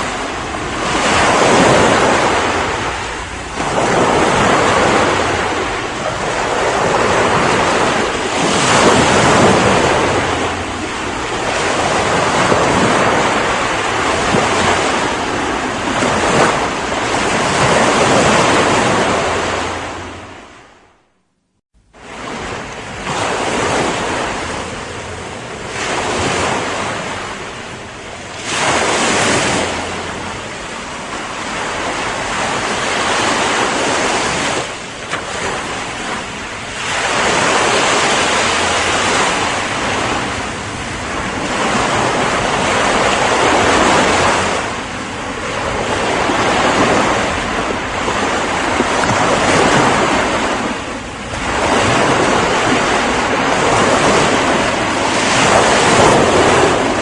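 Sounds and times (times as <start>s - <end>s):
ocean waves breaking on shore: 0.0s - 21.1s, 21.8s - 57.0s.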